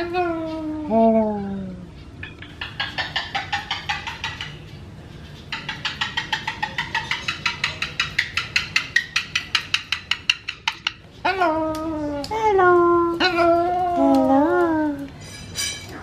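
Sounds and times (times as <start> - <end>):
cockatoo clicking: 2.1 - 15.2.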